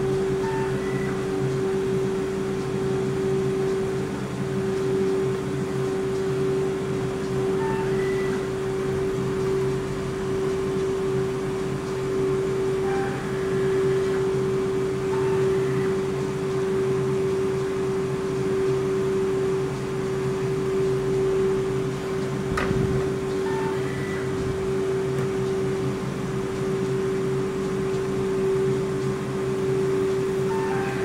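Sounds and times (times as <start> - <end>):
ice cream machine humming: 0.0 - 31.0.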